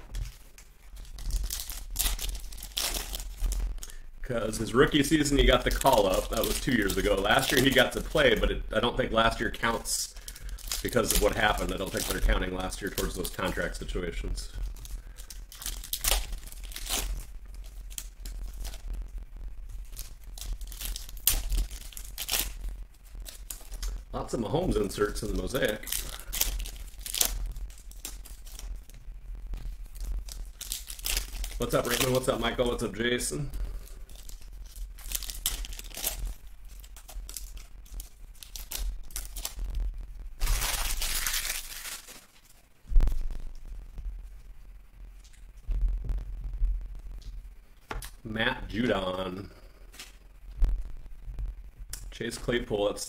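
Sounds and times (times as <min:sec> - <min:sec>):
plastic wrapper crinkling: 0:00.0 - 0:46.4, 0:47.0 - 0:51.2.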